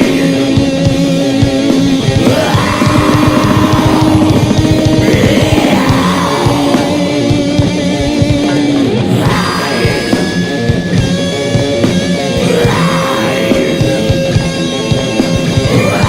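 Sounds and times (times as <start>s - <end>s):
distorted guitars: 0.0s - 16.0s
fast drumming: 0.0s - 16.0s.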